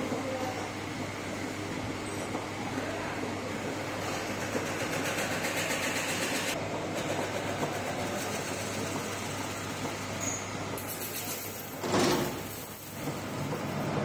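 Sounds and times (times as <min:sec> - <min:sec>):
power press machinery humming: 0:00.0 - 0:14.0.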